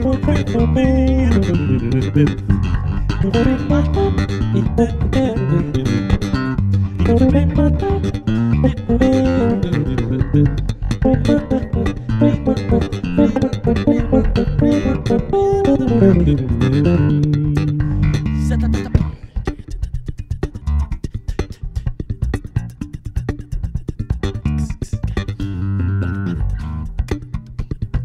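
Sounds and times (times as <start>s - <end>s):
electric basses playing: 0.0s - 28.0s.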